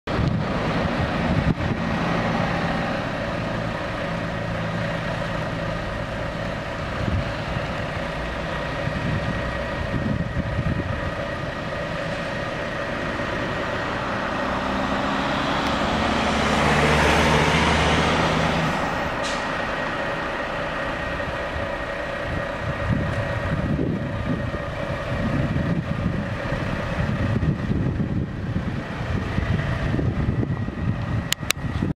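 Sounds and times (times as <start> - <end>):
passing vehicle: 0.1 - 31.9
truck engine idling: 0.1 - 31.9.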